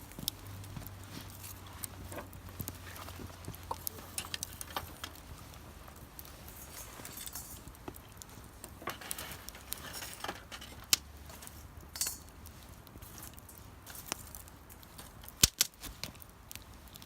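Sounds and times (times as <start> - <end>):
small hard objects clicking: 0.0 - 17.0.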